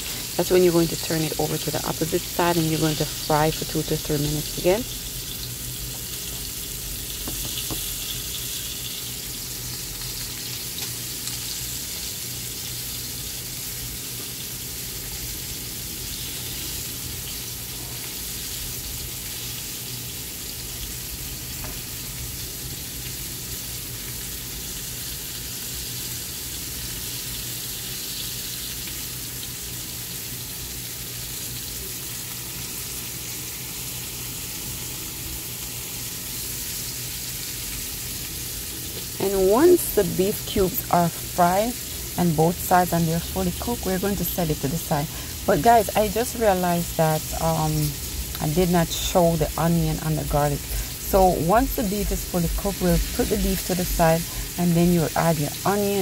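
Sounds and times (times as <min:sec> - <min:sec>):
meat sizzling in oil: 0:00.0 - 0:56.0.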